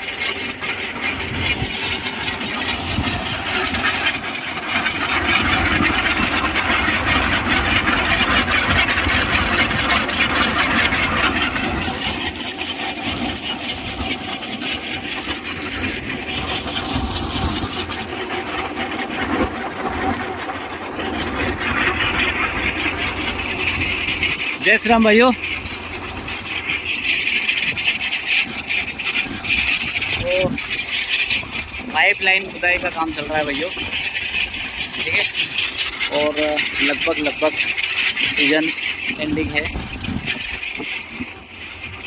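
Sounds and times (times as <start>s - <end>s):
tractor engine under load: 0.0s - 42.0s.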